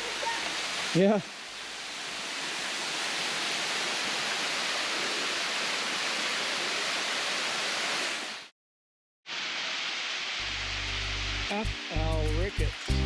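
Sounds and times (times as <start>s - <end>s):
waterfall rushing: 0.0s - 8.5s, 9.3s - 13.0s.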